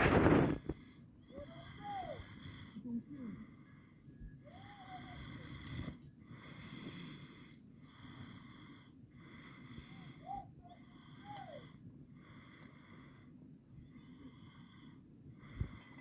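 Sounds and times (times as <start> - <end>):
wheezy snoring: 0.0 - 16.0.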